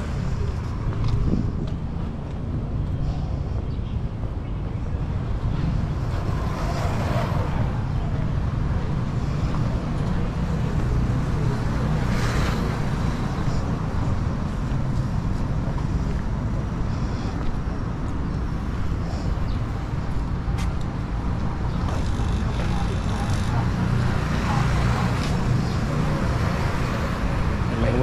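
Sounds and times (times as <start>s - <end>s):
traffic rumble: 0.0s - 28.0s
vehicles passing: 0.0s - 28.0s.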